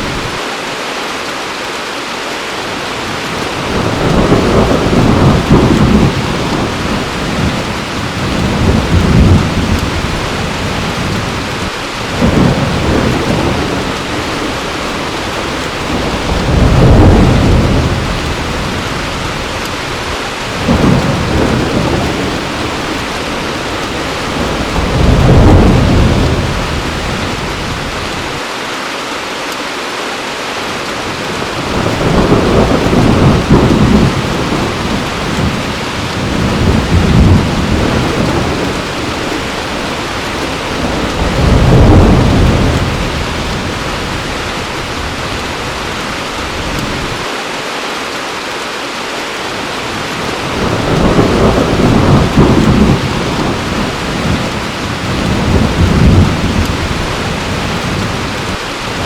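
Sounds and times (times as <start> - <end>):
heavy rain falling: 0.0 - 59.0
rolling thunder: 3.2 - 28.4, 31.1 - 47.2, 50.0 - 59.0.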